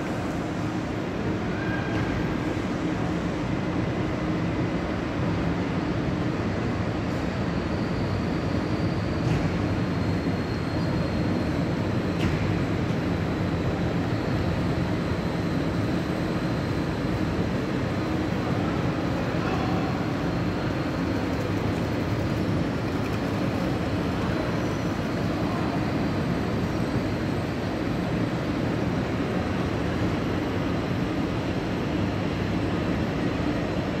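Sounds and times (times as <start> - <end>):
low hum and rumble in train station: 0.0 - 34.0.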